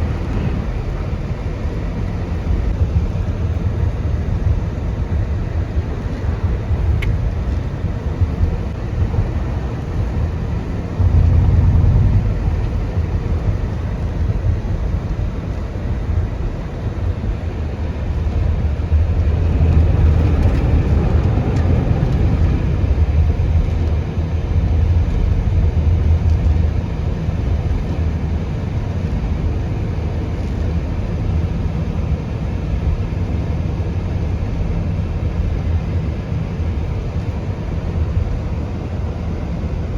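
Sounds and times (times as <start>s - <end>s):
car interior road rumble: 0.0s - 39.9s.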